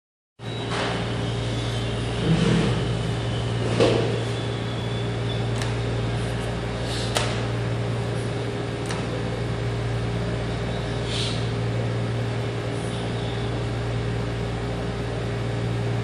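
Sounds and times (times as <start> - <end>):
steady low hum: 0.5 - 16.0.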